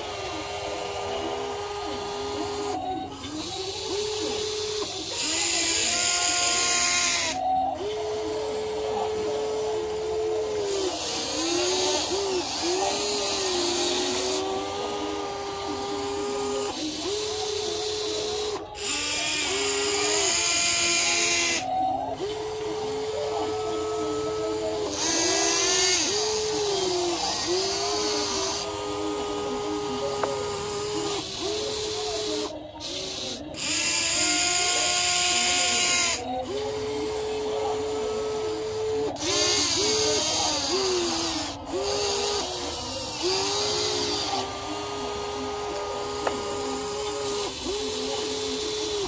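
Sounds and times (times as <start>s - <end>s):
small electric motors whining: 0.0s - 49.0s.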